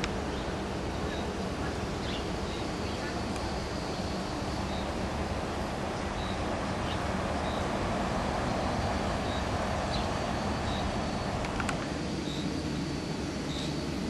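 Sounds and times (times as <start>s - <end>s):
rumbling outdoor noise: 0.0s - 14.0s.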